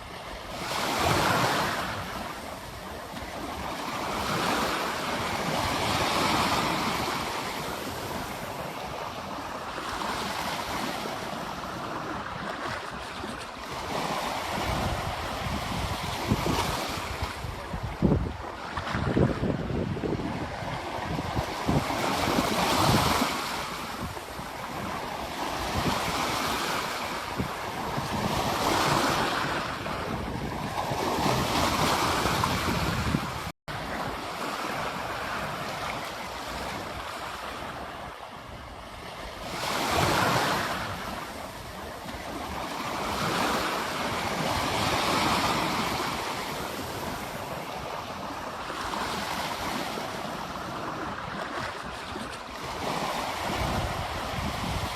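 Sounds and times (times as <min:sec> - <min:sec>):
ocean surf breaking on beach: 0:00.0 - 0:54.9.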